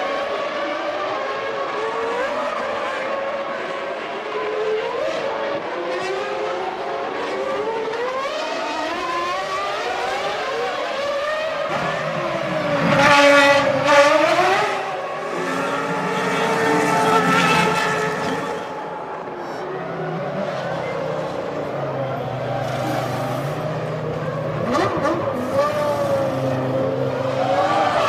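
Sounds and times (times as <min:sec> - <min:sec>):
racing car engines at full revs: 0:00.0 - 0:28.0
racing car passing by: 0:00.0 - 0:28.0.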